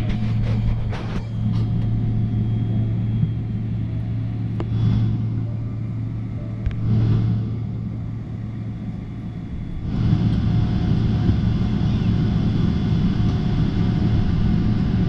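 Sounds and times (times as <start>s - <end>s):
airliner engine hum: 0.0s - 15.0s.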